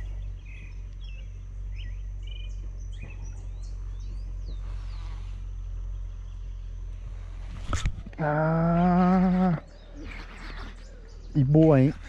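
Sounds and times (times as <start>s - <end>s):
insect buzzing: 0.0s - 12.0s
low rumble: 0.0s - 12.0s
small birds chirping: 0.0s - 12.0s.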